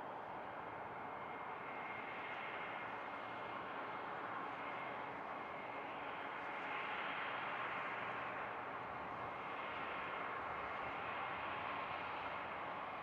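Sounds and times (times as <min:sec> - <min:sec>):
distant diesel locomotives roaring: 0:00.0 - 0:13.0.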